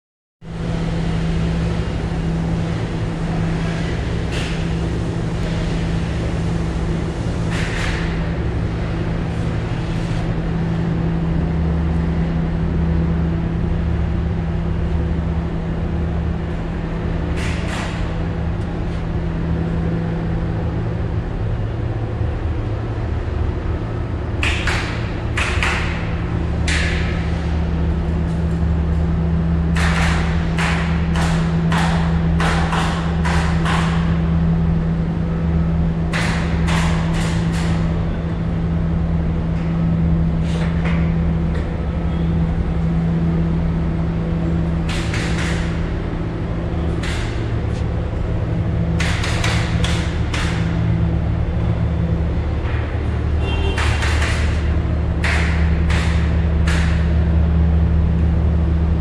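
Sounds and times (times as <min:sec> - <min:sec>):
machinery humming and rumbling: 0:00.4 - 0:59.0.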